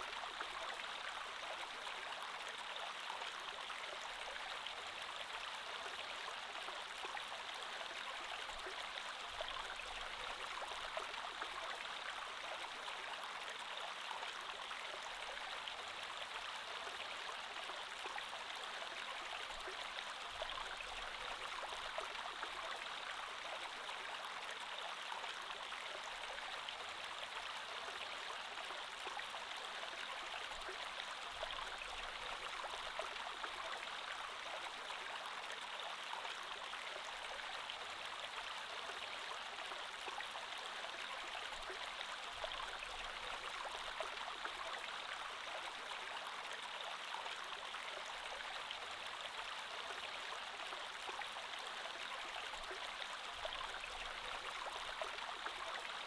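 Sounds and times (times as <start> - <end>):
creek water flowing over stones: 0.0 - 56.0.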